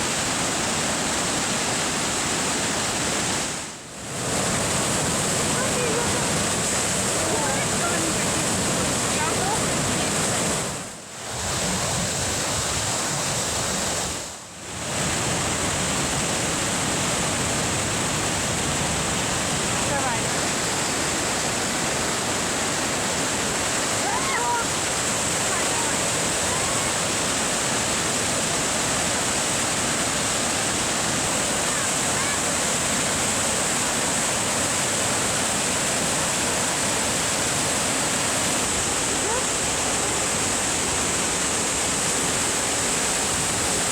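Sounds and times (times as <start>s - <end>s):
waterfall rushing water: 0.0s - 43.9s.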